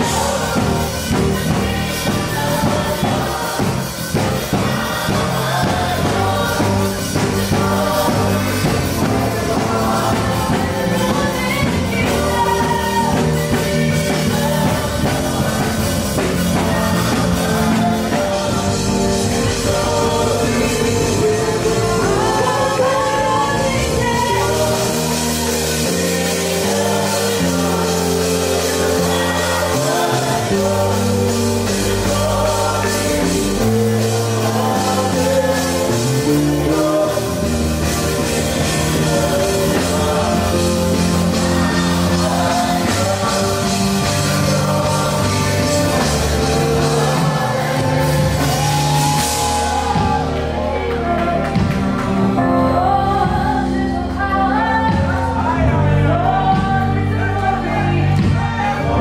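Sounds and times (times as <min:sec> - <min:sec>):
live band playing: 0:00.0 - 0:59.0
people singing: 0:00.0 - 0:59.0.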